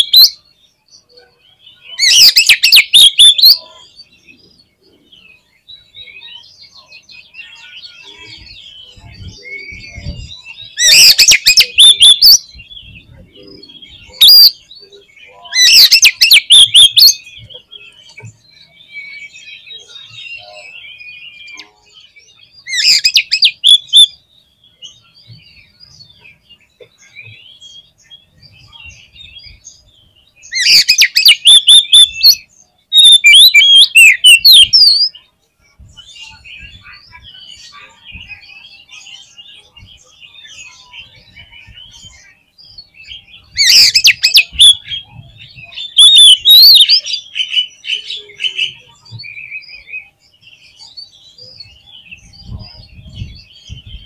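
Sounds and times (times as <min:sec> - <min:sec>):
bird twittering: 0:00.0 - 0:35.3, 0:40.0 - 0:54.0.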